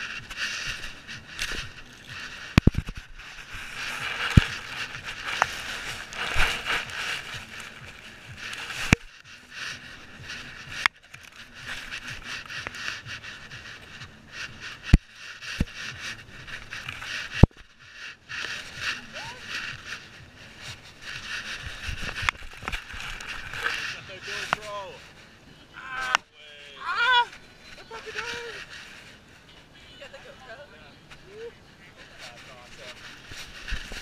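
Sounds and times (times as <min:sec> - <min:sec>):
rustling through grass: 0:00.0 - 0:34.0.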